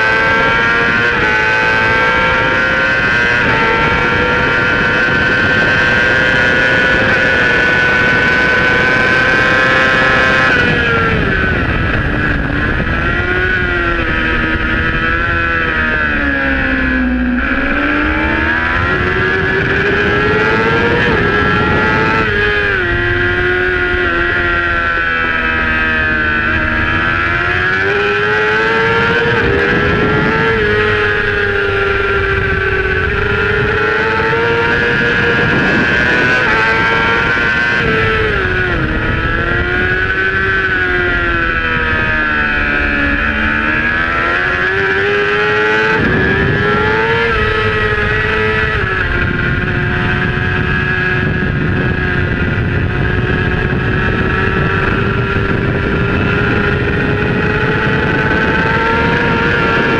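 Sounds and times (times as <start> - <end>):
motorcycle engine revving high: 0.0 - 59.9
wind rushing: 0.5 - 59.9.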